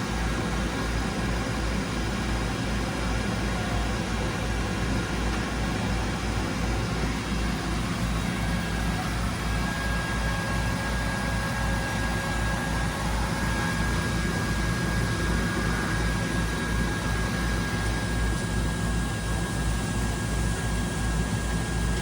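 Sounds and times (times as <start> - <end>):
machine high whine: 0.0 - 22.0
machine low pulsing hum: 0.0 - 22.0.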